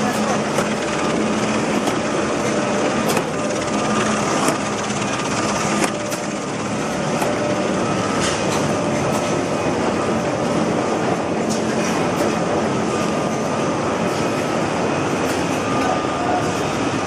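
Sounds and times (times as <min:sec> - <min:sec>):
machine clatter of belts and rollers: 0:00.0 - 0:17.0.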